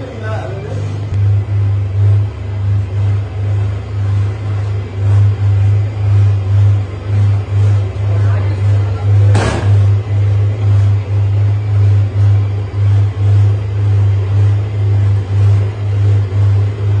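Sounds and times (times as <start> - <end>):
electric motor humming: 0.0 - 17.0.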